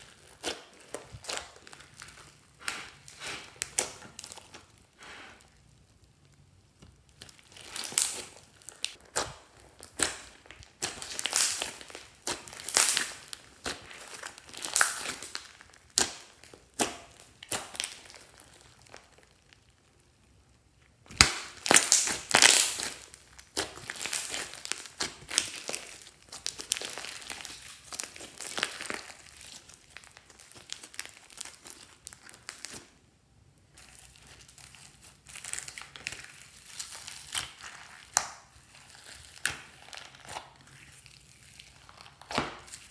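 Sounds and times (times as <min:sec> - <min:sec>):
slime squishing and crackling: 0:00.0 - 0:42.9.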